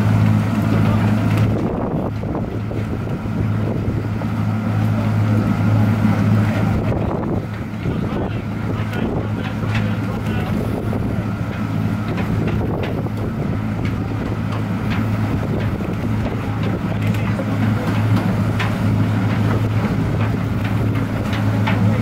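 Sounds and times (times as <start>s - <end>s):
diesel engines humming: 0.0s - 22.0s
propellers churning water: 0.0s - 22.0s
wind on microphone: 0.0s - 22.0s.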